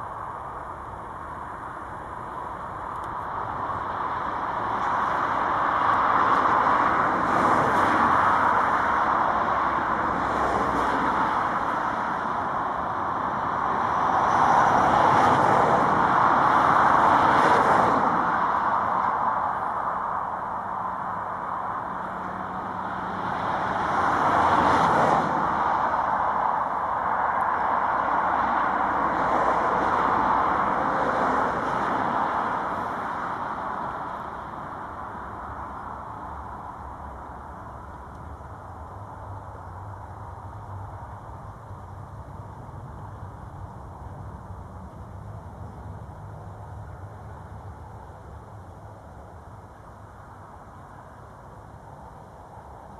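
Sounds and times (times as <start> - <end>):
jet engines at takeoff: 0.0 - 52.9.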